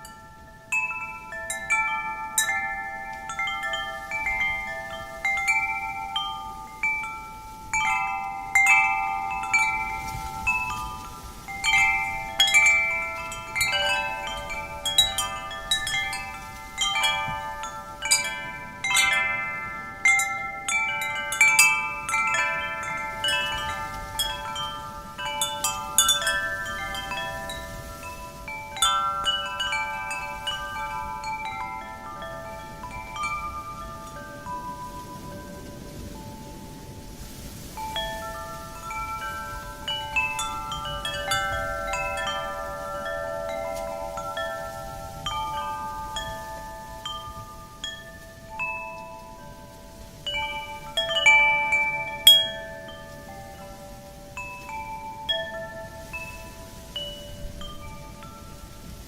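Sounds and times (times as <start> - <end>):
faint wind: 0.0 - 59.0
metal wind chimes ringing: 0.0 - 59.0.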